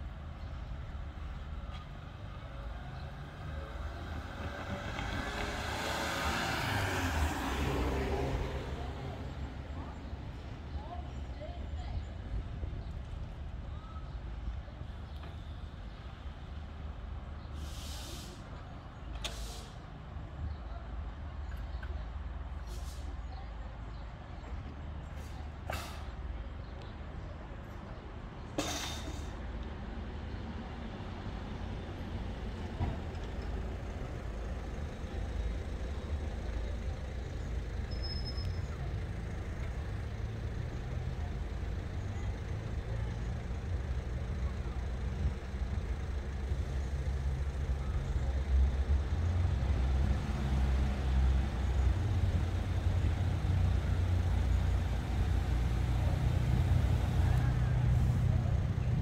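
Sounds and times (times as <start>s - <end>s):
diesel train rumble: 0.0s - 59.0s.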